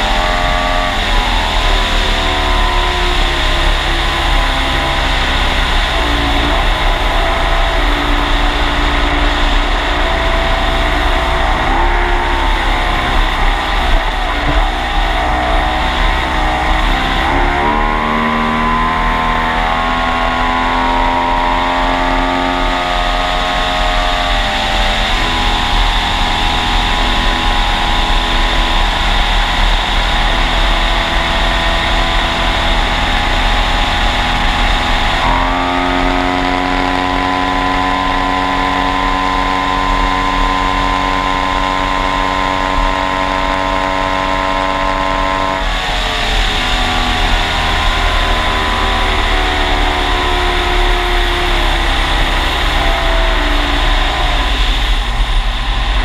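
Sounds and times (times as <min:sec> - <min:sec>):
outboard engine running hard: 0:00.0 - 0:56.0.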